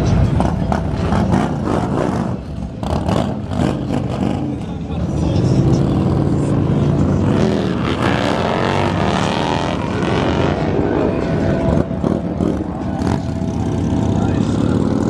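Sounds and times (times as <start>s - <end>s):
vehicle engines revving loudly: 0.0s - 15.0s.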